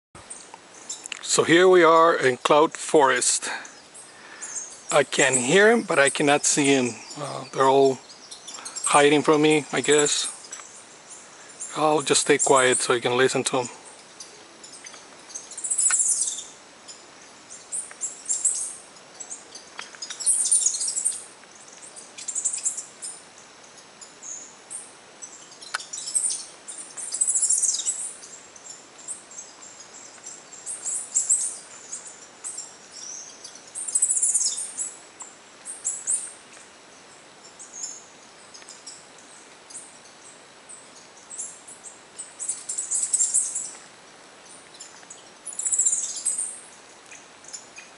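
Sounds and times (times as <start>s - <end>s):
birds singing: 0.2s - 47.9s
faint background hiss: 0.2s - 47.9s.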